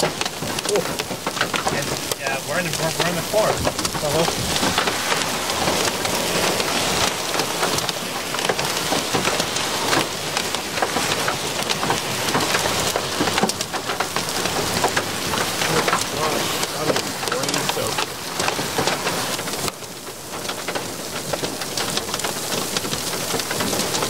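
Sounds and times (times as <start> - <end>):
heavy rain drumming on car roof: 0.0 - 24.0.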